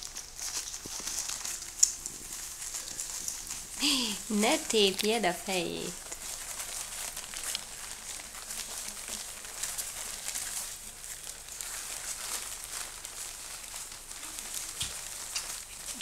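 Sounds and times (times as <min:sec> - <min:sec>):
soft rustling and crinkling: 0:00.0 - 0:16.0
steady high hiss: 0:00.0 - 0:16.0.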